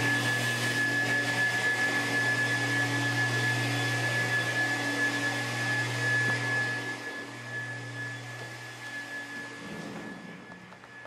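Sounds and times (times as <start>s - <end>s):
blowing machine motor hum: 0.0s - 11.0s
high constant whine: 0.0s - 11.0s.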